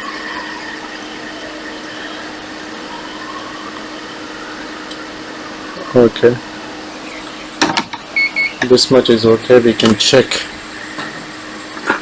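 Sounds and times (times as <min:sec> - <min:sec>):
hot air station blowing: 0:00.0 - 0:12.0.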